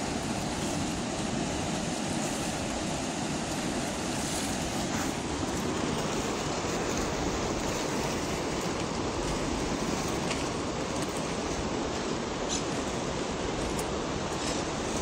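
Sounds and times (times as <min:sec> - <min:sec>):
choppy water against concrete: 0:00.0 - 0:15.0.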